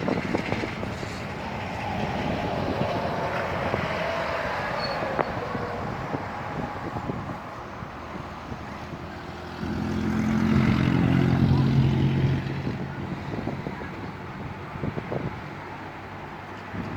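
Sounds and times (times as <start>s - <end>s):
wind rushing: 0.0s - 15.5s
vehicle passing: 0.0s - 16.1s
traffic: 0.0s - 16.9s.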